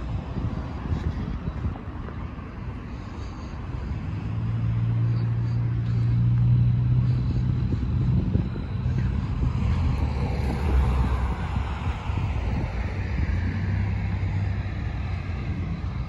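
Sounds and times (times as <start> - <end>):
engine hum: 0.0 - 16.0
traffic rumble: 0.0 - 16.0
wind on microphone: 0.0 - 16.0.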